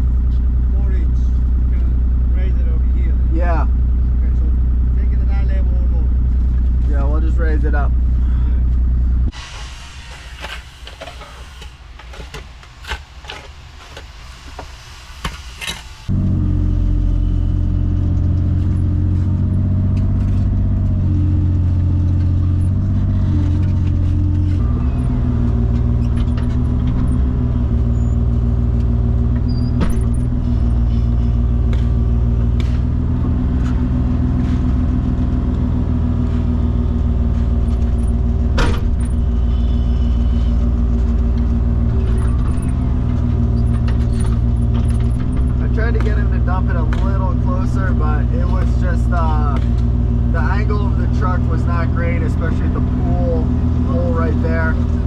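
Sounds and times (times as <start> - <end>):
heavy equipment engine running: 0.0 - 55.0.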